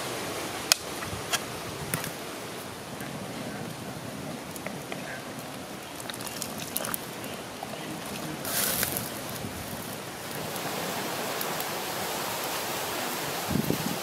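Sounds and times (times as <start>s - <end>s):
fire crackles: 0.0s - 14.0s
soup boiling and bubbling: 1.9s - 14.0s.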